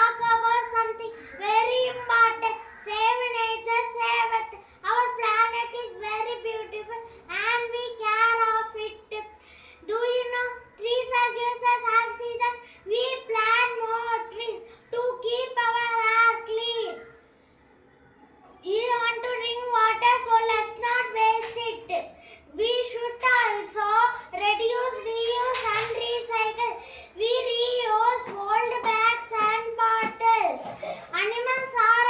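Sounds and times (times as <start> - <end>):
child chanting: 0.0 - 17.3, 18.6 - 32.0.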